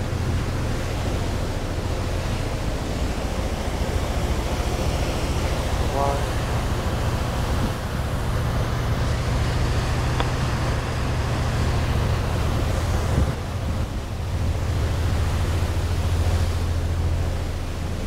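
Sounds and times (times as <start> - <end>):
ferry wake churning along hull: 0.0 - 18.0
wind buffeting microphone: 0.0 - 18.0.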